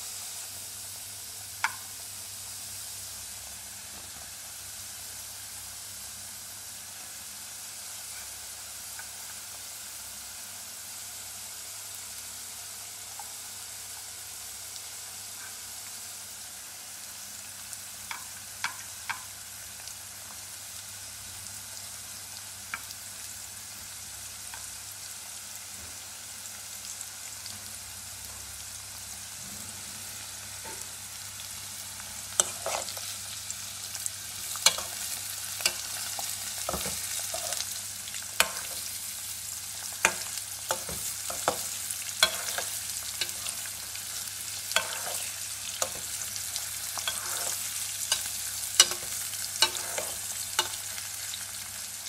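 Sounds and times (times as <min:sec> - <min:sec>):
vegetables sizzling in hot oil: 0:00.0 - 0:52.0.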